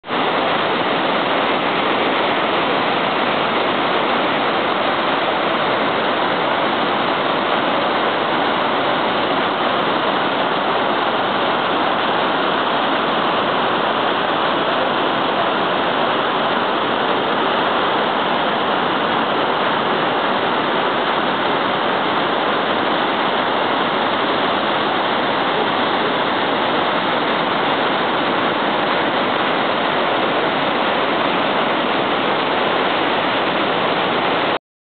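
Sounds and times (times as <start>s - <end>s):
river water rushing over rocks: 0.1s - 34.6s.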